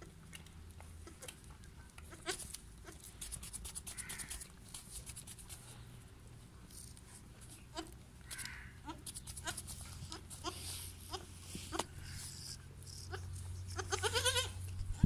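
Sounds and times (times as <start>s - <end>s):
goat kids suckling: 0.3s - 5.8s, 6.9s - 14.9s.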